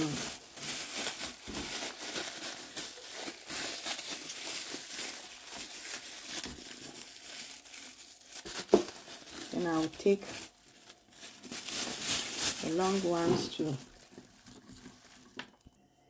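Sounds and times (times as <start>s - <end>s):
plastic bag crinkling: 0.0s - 15.8s.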